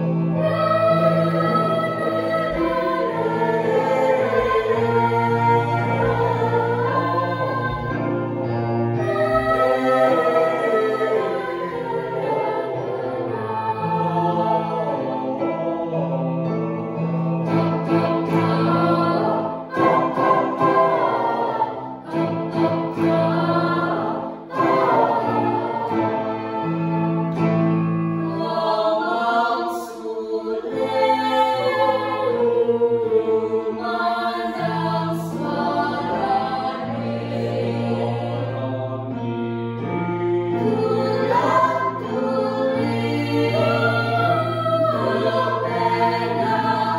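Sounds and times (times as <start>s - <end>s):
choir singing in harmony: 0.0s - 46.9s.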